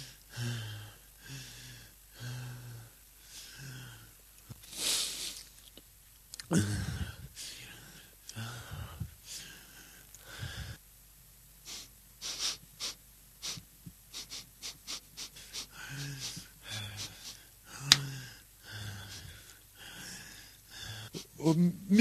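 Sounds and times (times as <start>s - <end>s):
person panting and gasping: 0.0s - 4.0s, 6.5s - 10.8s, 11.7s - 21.4s.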